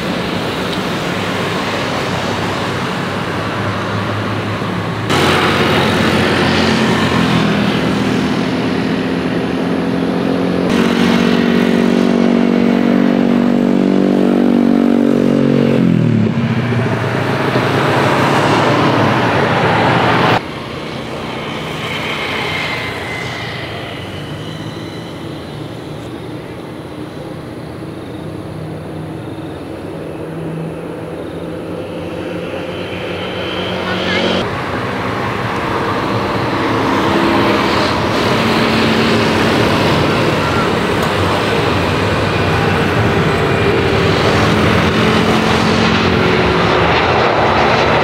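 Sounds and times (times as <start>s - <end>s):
engine hum dropping in pitch: 0.0s - 48.0s
jet engine noise: 0.0s - 48.0s.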